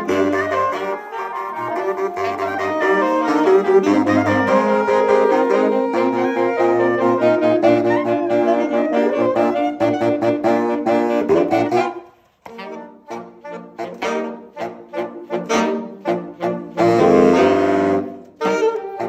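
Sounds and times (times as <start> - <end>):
saxophone quartet playing: 0.0 - 19.0.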